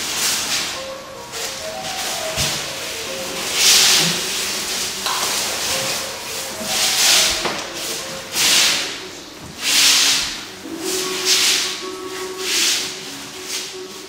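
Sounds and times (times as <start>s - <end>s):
rhythmic swelling hiss: 0.0s - 14.0s.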